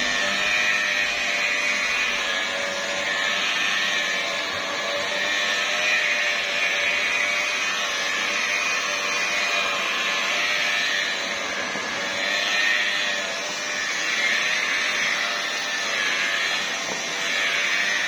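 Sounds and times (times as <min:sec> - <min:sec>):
polishing machine whirring: 0:00.0 - 0:18.0.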